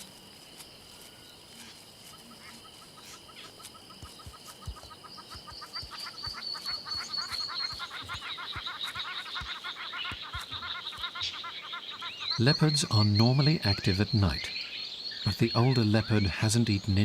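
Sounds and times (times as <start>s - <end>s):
birds chirping: 0.0s - 17.0s
high insect trill: 0.0s - 17.0s.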